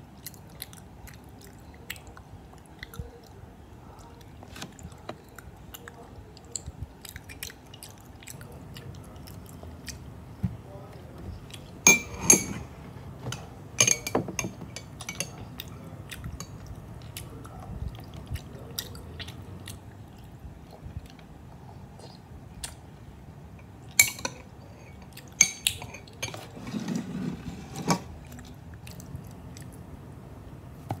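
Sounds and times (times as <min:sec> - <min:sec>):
soft chewing: 0:00.0 - 0:11.8, 0:14.8 - 0:26.5, 0:28.1 - 0:30.0.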